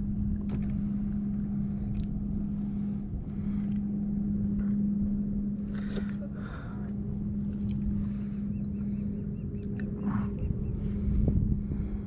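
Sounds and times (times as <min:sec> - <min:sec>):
boat motor humming: 0:00.0 - 0:12.0
low rumble: 0:00.0 - 0:12.0.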